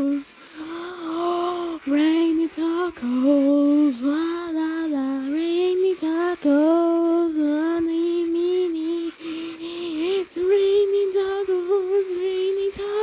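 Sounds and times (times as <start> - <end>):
high child-like singing voice: 0.0 - 0.3, 1.0 - 13.0.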